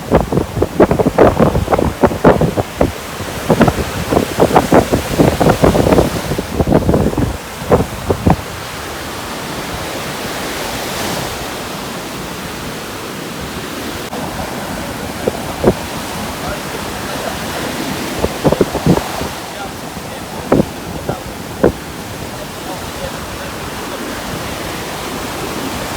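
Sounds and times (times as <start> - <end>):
ocean surf: 0.0 - 25.9
wind blowing across microphone: 0.0 - 25.9.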